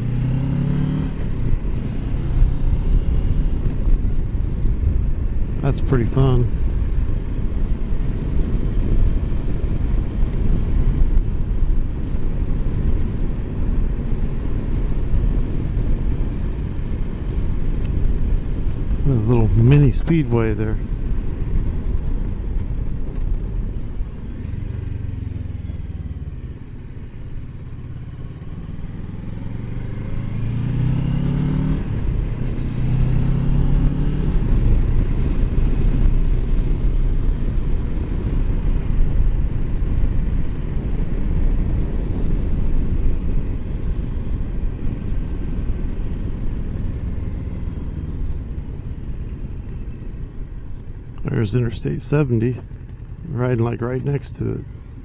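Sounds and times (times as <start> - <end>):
motorcycle engine accelerating: 0.0 - 20.1, 21.3 - 54.2
road and wind noise: 0.0 - 55.0.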